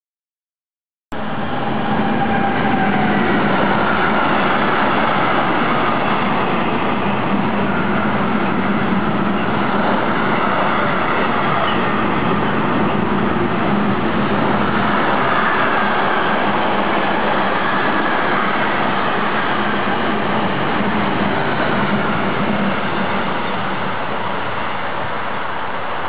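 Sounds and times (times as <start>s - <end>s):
train wheels rumbling on rails: 1.2s - 26.0s.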